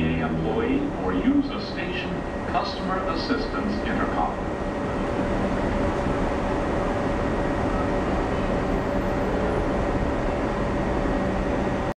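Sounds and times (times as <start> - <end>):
subway train hum and rumble: 0.0 - 12.0.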